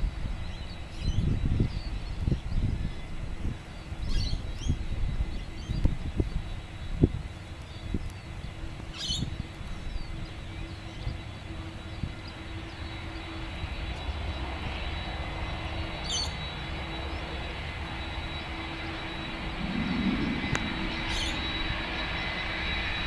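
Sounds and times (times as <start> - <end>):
jet engines on takeoff: 0.0 - 23.0.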